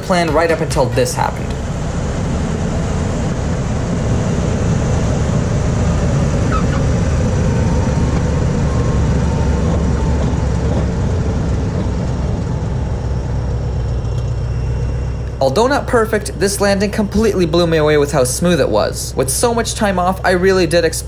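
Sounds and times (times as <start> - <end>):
airplane engine at low power: 0.0 - 21.0.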